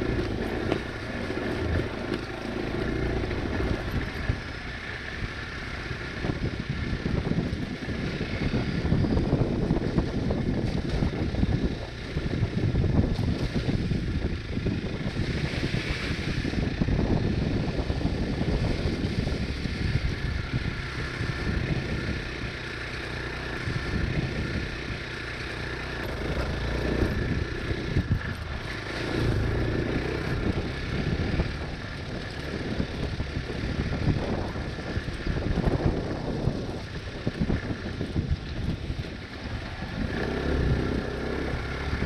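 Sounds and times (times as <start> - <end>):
motorcycle engine on dirt trail: 0.0 - 42.0.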